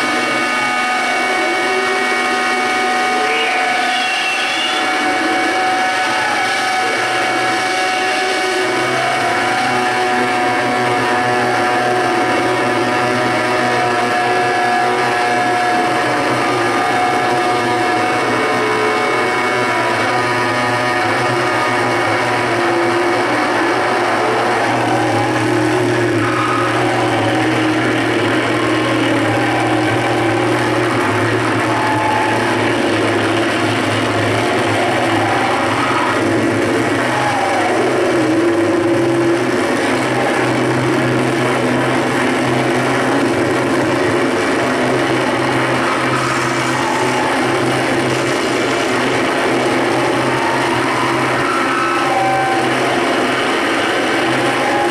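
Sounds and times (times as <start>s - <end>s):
dense wall of noise: 0.0s - 54.9s
low drone: 0.0s - 54.9s.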